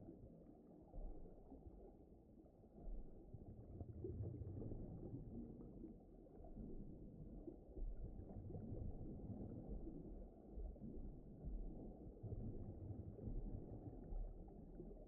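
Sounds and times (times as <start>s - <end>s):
muffled underwater ocean rumble: 0.0s - 15.0s.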